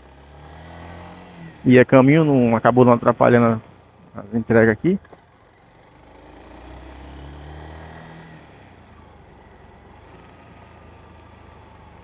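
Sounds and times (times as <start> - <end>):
vehicle engine revving: 0.0 - 5.0, 5.6 - 12.0
traffic and road noise: 0.0 - 12.0.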